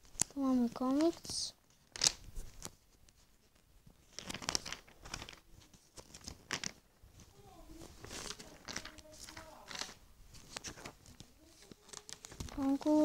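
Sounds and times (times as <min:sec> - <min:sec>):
magazine pages rustling: 0:00.0 - 0:13.0.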